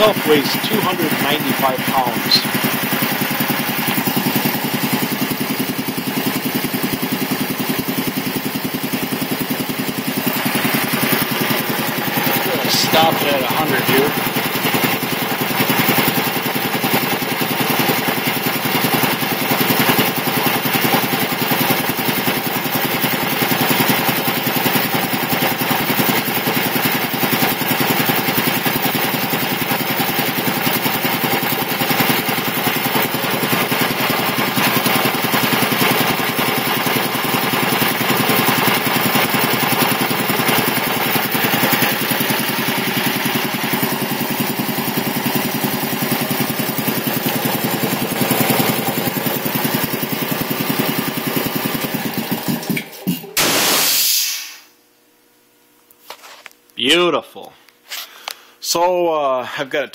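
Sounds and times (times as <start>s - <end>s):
air compressor chugging: 0.0s - 54.8s.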